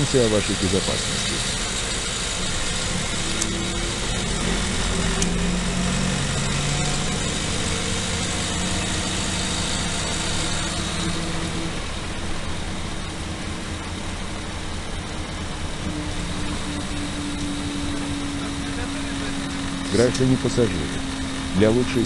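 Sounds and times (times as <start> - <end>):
bus engine low drone: 0.0 - 22.0.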